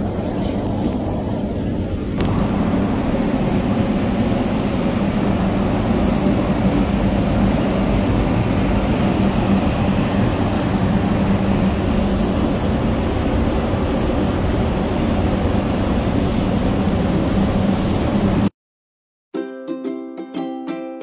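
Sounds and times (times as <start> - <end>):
ventilation machine hum: 0.0 - 18.5.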